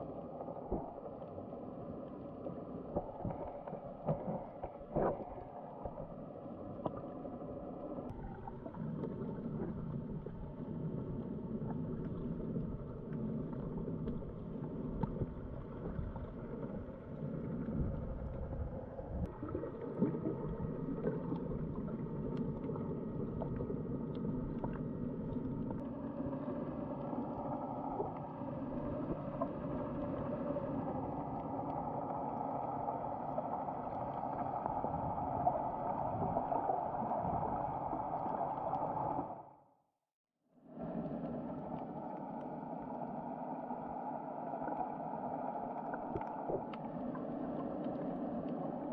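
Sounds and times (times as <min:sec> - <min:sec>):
underwater rush of water: 0:00.0 - 0:39.6, 0:40.7 - 0:48.9
faint hum: 0:00.0 - 0:48.9.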